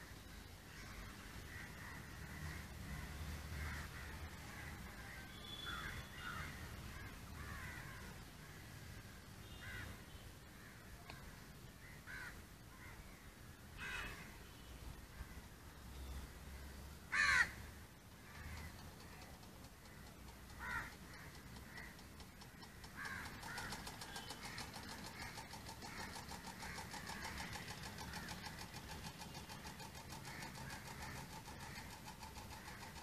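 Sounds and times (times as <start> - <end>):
crow cawing: 0.7 - 8.7, 9.5 - 10.0, 10.6 - 13.2, 13.8 - 14.4, 17.1 - 19.2, 19.8 - 33.0.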